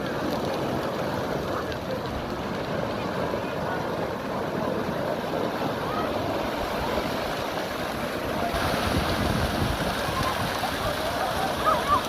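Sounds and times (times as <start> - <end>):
sea surf on beach: 0.0 - 12.0
wind rumbling on microphone: 0.0 - 12.0.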